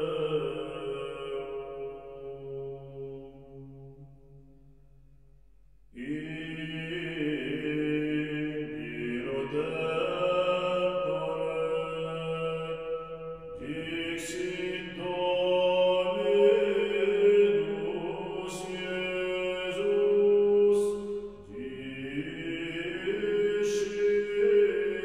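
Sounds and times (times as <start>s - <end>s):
slow vocal chanting: 0.0s - 4.6s, 5.9s - 25.0s.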